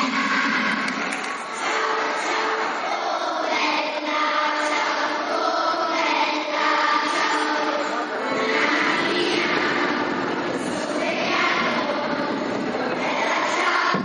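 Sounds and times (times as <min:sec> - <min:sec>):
children's choir singing: 0:00.0 - 0:14.0.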